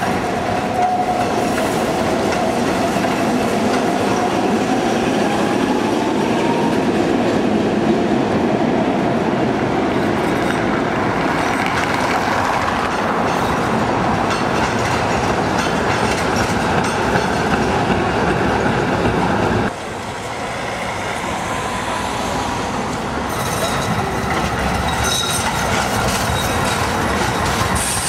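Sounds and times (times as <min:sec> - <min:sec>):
tram wheels rattling on rails: 0:00.0 - 0:28.0.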